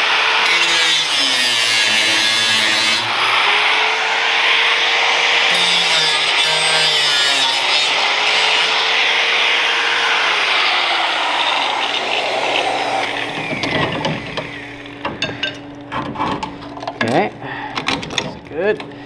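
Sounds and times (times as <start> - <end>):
power tool grinding metal: 0.0 - 16.2.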